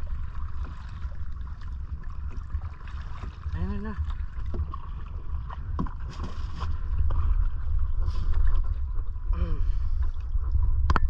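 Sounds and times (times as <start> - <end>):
water lapping at hull: 0.0 - 11.0
wind on microphone: 0.0 - 11.0.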